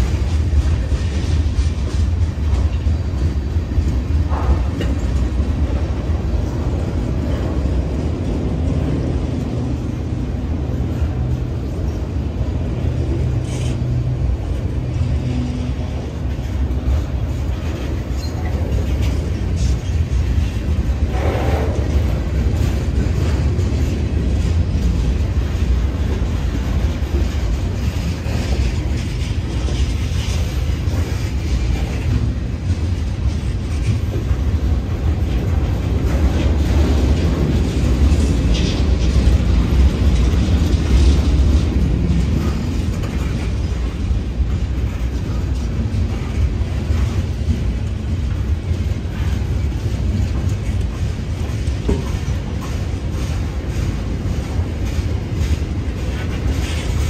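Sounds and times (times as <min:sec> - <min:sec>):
freight train wheels rumbling: 0:00.0 - 0:57.0
train cars knocking: 0:00.0 - 0:57.0.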